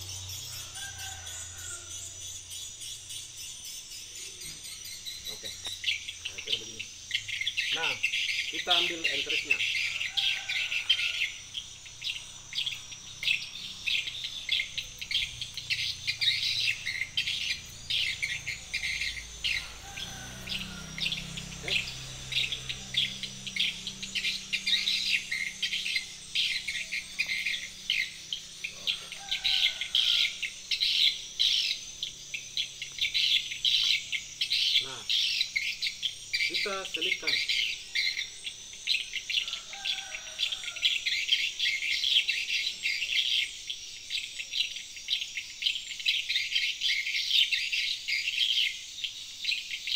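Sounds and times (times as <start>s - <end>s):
birds calling: 0.0s - 49.9s
insects chirping: 0.0s - 49.9s.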